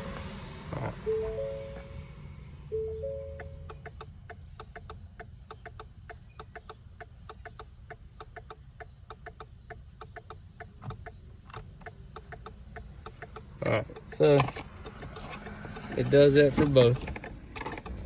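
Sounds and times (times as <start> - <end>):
turn signal ticking: 0.0 - 18.0.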